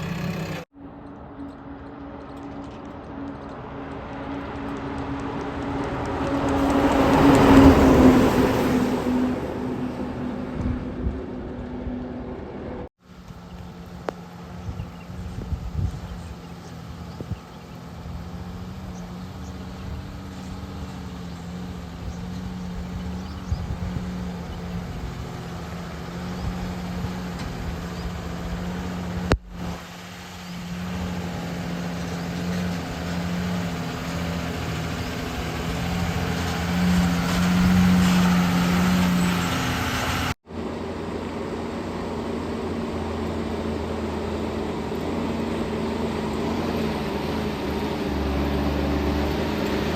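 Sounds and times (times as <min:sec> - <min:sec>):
backhoe diesel engine running: 0:00.0 - 0:49.9.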